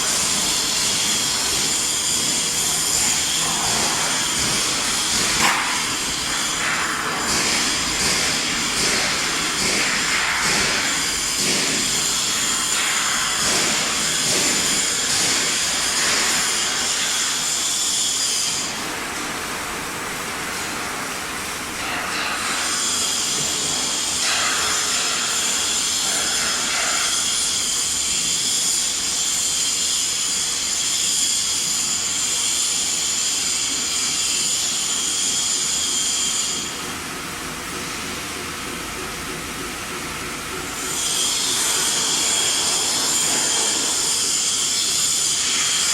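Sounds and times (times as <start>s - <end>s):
machine high-pitched whine: 0.0s - 45.9s
machine hiss: 0.0s - 45.9s.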